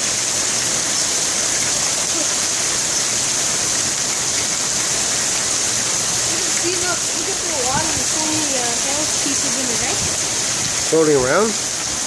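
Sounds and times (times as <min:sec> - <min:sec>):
heavy rain with hail: 0:00.0 - 0:12.0.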